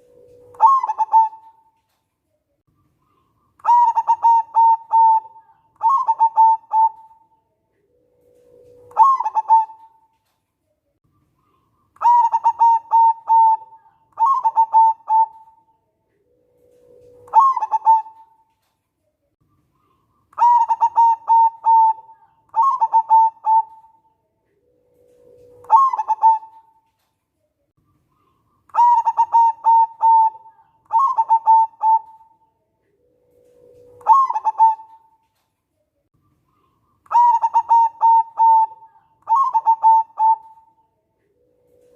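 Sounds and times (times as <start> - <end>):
dove cooing: 0.0 - 1.8, 3.0 - 10.1, 11.4 - 18.5, 19.8 - 27.0, 28.0 - 35.4, 36.5 - 41.9.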